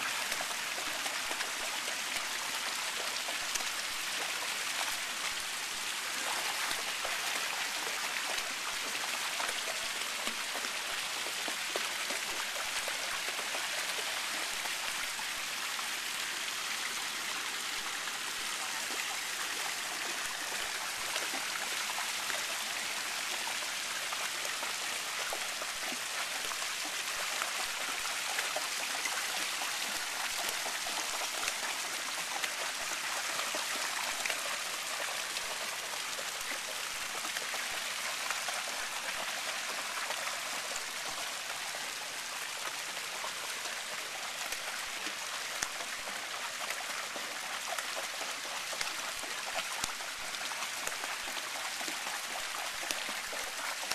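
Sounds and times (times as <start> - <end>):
fountain water rushing into pool: 0.0 - 53.9.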